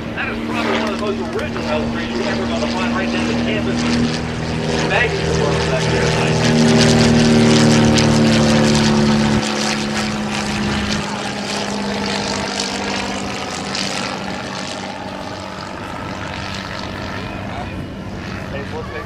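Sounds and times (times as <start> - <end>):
propeller plane flying past: 0.0 - 19.0.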